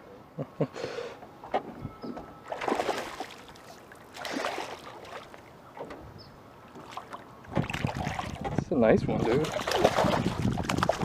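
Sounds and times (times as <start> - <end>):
water splashing against boat: 1.6 - 11.0.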